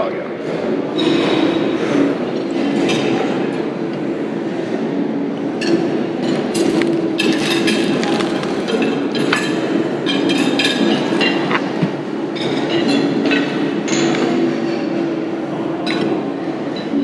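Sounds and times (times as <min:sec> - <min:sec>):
restaurant background noise: 0:00.0 - 0:17.0.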